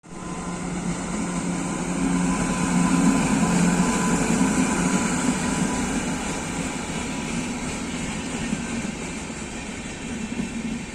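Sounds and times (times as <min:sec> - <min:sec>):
train rumbling: 0:00.0 - 0:10.9.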